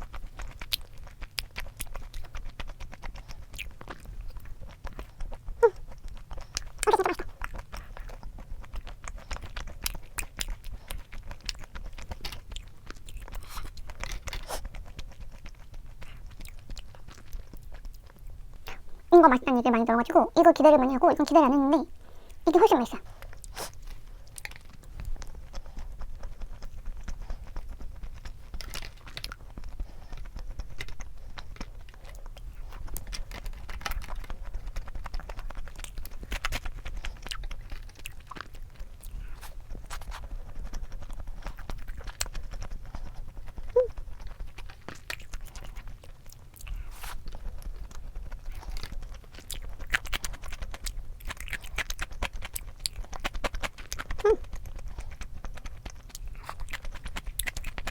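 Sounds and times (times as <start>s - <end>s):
person chewing and crunching food: 0.0s - 57.9s.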